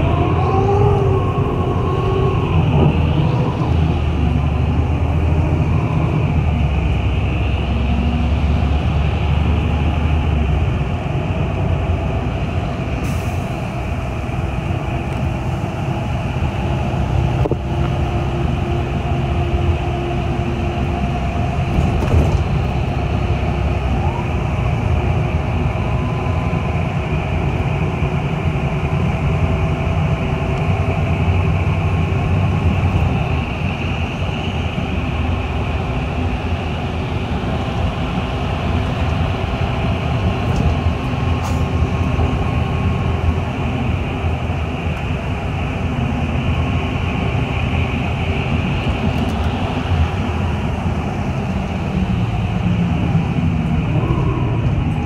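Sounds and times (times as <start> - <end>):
bus engine and tyres rumbling: 0.0 - 55.0.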